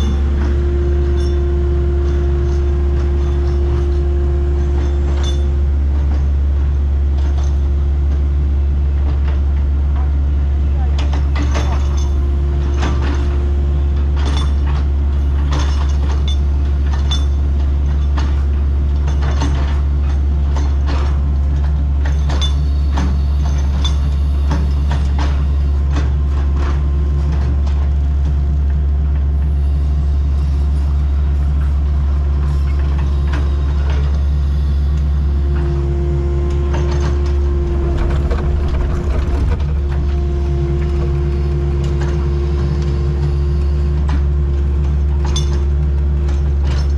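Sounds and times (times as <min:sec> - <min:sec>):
clanks and rattles: 0:00.0 - 0:08.3, 0:08.9 - 0:29.6, 0:30.2 - 0:46.9
hydraulic whine: 0:00.0 - 0:08.7, 0:11.2 - 0:46.9
diesel engine running: 0:00.0 - 0:46.9.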